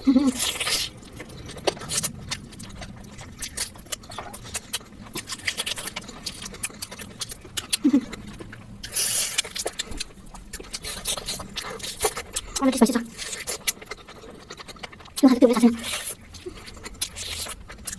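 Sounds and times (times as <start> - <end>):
person chewing food: 0.0 - 17.9.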